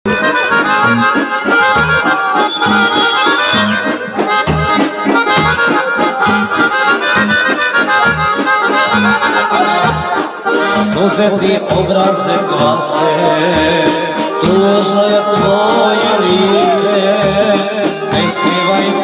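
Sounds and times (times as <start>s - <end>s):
accordion folk music: 0.0s - 19.0s.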